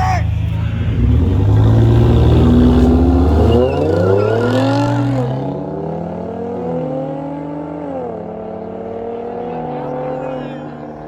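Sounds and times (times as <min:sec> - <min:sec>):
race cars accelerating: 0:00.0 - 0:11.0.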